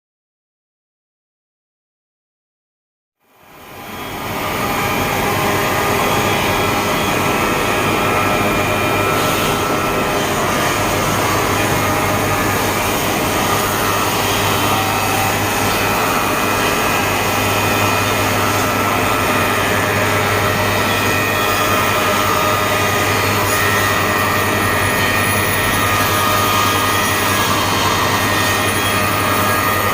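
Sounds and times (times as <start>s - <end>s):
wood moulding machine drone: 3.4s - 29.9s.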